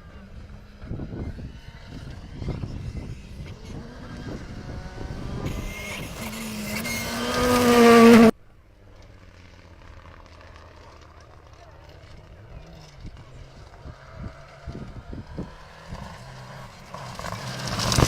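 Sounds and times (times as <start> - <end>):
rally car accelerating: 0.0 - 8.3, 9.3 - 18.0.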